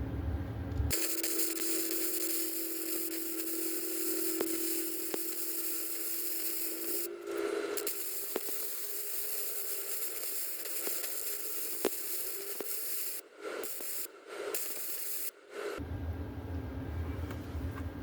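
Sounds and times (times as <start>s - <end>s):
welder arc crackling and hissing: 0.9s - 15.8s.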